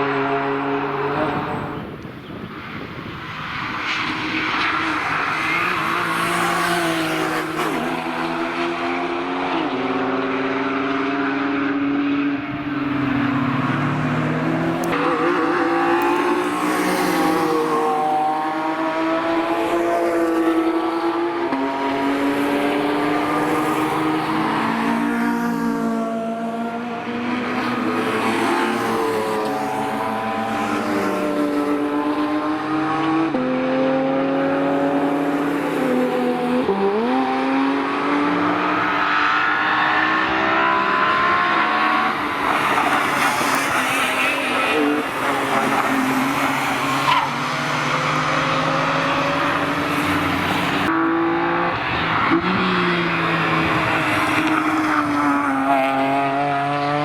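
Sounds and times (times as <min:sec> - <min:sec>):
car engines revving high: 0:00.0 - 0:57.0.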